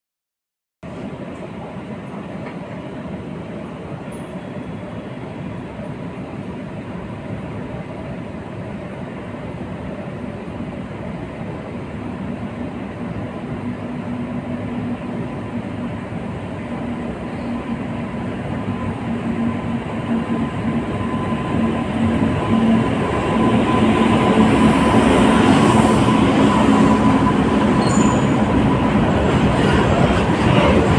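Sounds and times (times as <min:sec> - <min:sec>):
train rumbling on rails: 0:00.9 - 0:30.9.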